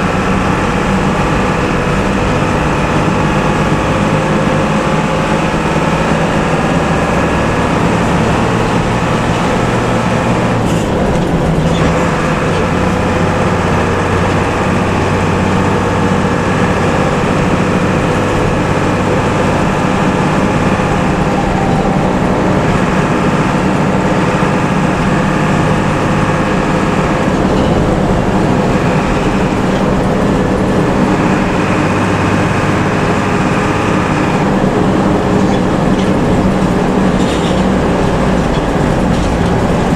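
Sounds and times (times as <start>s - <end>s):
bus engine drone: 0.0s - 39.9s
road and tyre noise: 0.0s - 39.9s.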